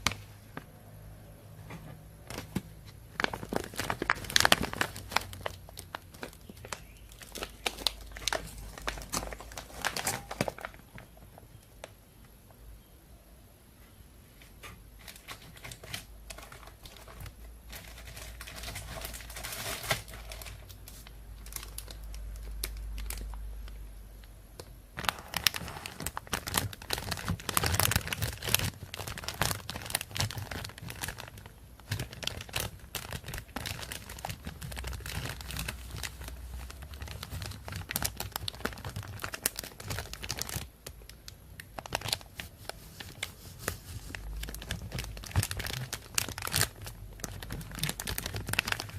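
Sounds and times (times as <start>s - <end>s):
plastic bag crinkling: 2.2s - 11.9s, 15.0s - 23.8s, 24.6s - 48.9s.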